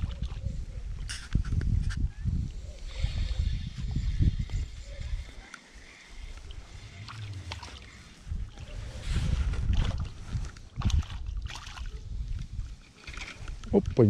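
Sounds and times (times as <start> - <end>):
wind buffeting microphone: 0.0 - 5.5, 6.2 - 14.0.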